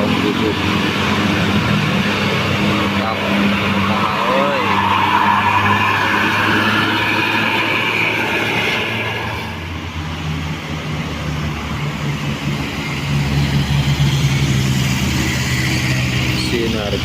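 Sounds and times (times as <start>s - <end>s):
bus diesel engine passing: 0.0s - 17.0s
high engine whine: 0.0s - 17.0s.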